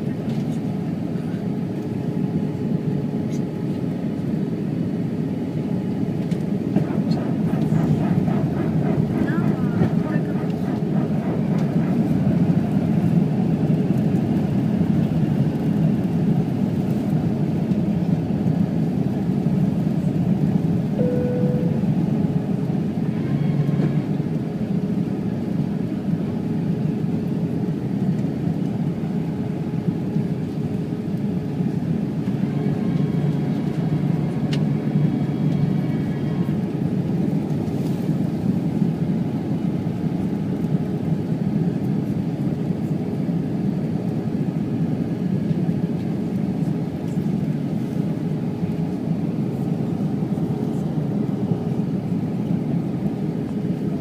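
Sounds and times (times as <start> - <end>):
jet airliner engines rushing: 0.0 - 54.0.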